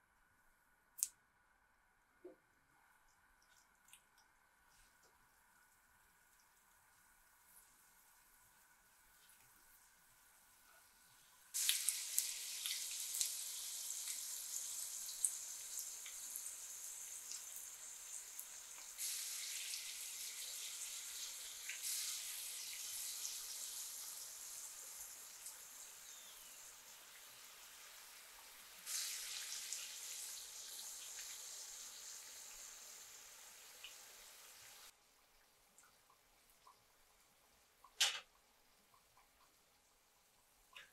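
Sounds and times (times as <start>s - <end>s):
dough frying in hot oil: 2.3s - 40.9s.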